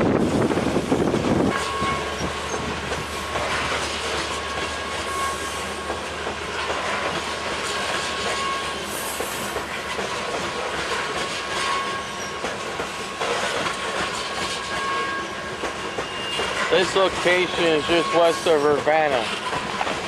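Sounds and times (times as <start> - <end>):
train rumble: 0.0 - 20.0
train wheels clacking over rails: 0.0 - 20.0.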